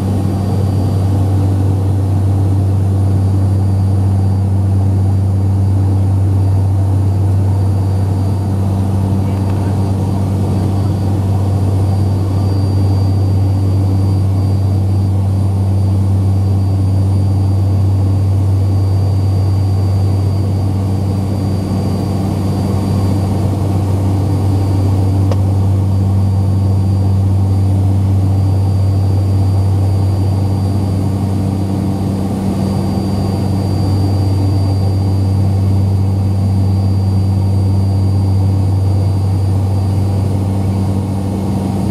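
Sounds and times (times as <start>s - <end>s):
airliner cabin drone: 0.0s - 41.9s
faint high whine: 0.0s - 41.9s.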